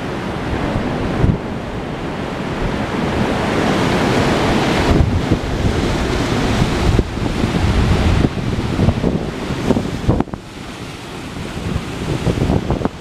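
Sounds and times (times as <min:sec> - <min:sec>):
sea surf breaking against wall: 0:00.0 - 0:13.0
wind buffeting microphone: 0:00.0 - 0:13.0.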